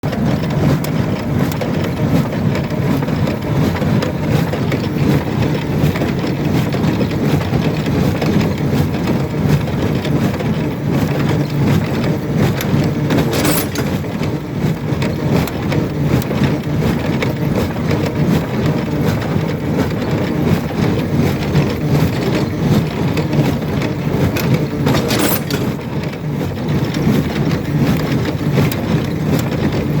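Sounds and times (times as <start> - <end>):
baler mechanical clatter: 0.0 - 30.0
knotter sharp clacks: 0.1 - 20.2, 22.0 - 29.7.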